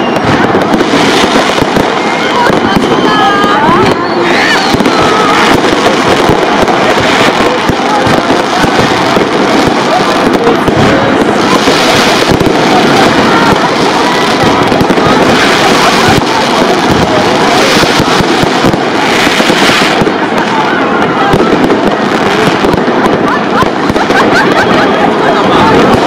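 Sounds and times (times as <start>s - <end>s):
fireworks and firecrackers crackling: 0.0s - 26.0s.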